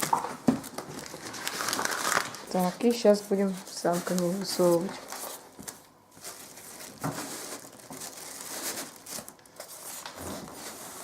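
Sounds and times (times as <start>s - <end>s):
packing materials rustling: 0.0s - 11.0s.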